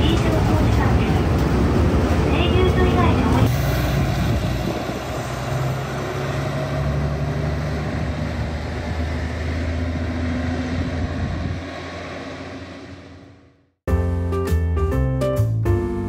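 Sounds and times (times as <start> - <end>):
bus engine rumbling: 0.0 - 13.8.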